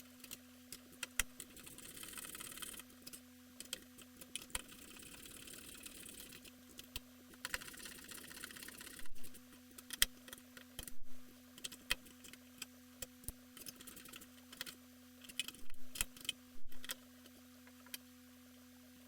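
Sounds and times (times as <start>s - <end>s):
electrical hum: 0.0s - 19.0s
clicks and clatter of computer parts: 0.1s - 11.0s, 11.6s - 18.0s.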